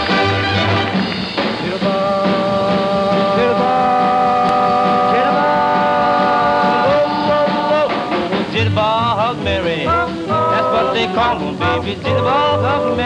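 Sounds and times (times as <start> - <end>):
band playing: 0.0 - 13.0
pulsing bass beat: 1.6 - 13.0
vocal group singing harmony: 1.6 - 13.0.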